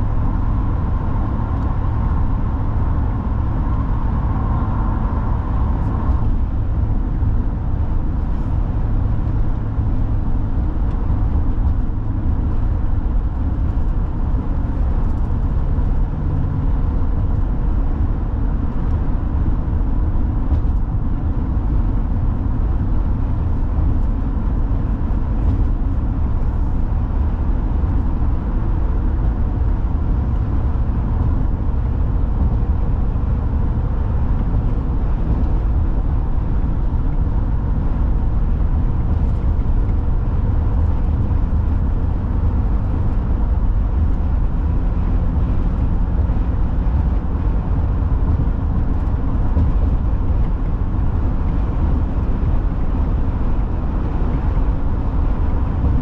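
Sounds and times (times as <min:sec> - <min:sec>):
car driving at highway speed: 0:00.0 - 0:56.0.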